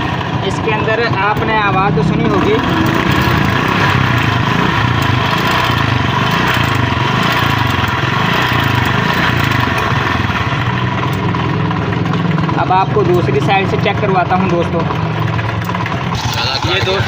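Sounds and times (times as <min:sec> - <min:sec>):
light engine rattle: 0:00.0 - 0:17.0
motorcycle engine idling: 0:00.0 - 0:17.0.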